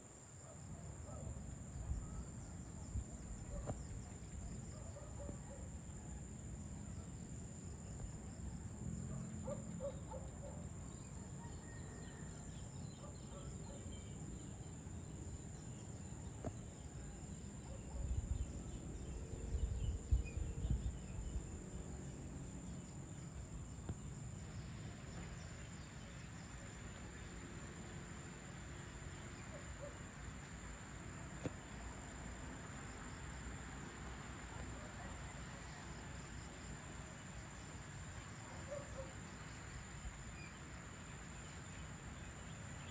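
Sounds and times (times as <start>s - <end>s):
hiss of insect noise: 0.0s - 42.9s.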